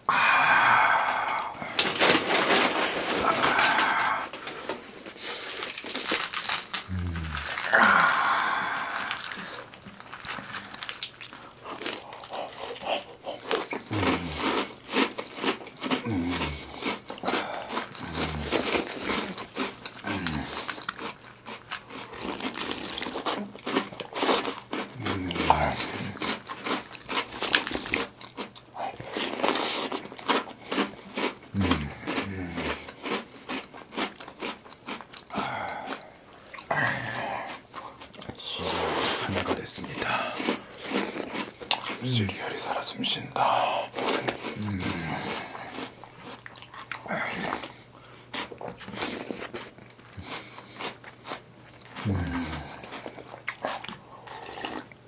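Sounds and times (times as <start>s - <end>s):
wet chewing and crunching: 1.0s - 55.0s.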